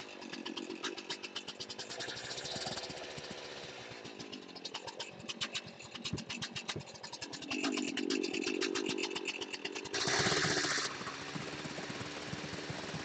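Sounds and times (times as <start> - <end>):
chainsaw engine idling: 0.0 - 13.0.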